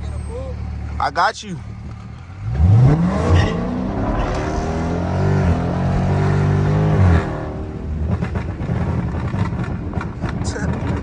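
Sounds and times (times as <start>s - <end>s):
car engine at full throttle: 1.7s - 11.0s
exhaust crackles: 1.8s - 11.0s.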